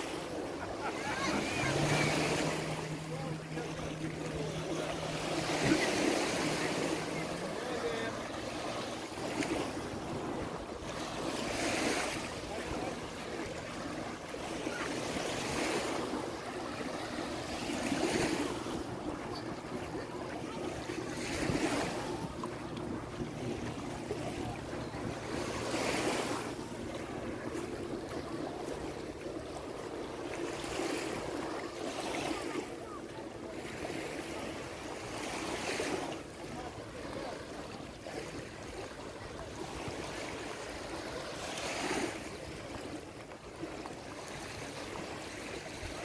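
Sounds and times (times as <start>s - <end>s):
waves breaking on beach: 0.0s - 46.0s.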